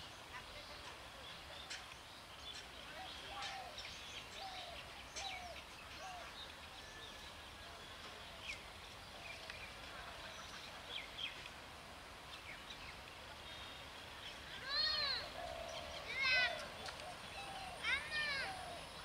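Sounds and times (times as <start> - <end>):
faint outdoor background: 0.0 - 19.0
small birds chirping: 0.0 - 19.0.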